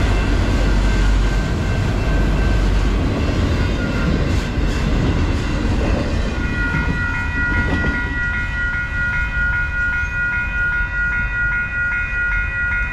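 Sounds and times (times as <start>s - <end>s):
crossing warning bell ringing: 0.0s - 12.9s
freight train cars rumbling: 0.0s - 12.9s.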